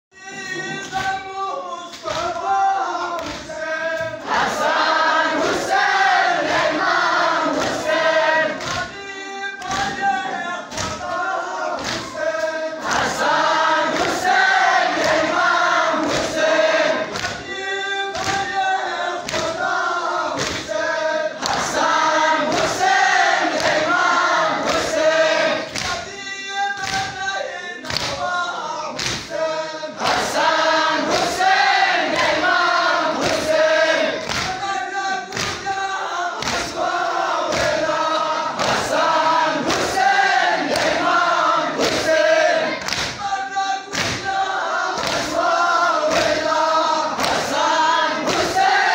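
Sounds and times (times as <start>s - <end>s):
men chanting in unison: 0.3s - 48.9s.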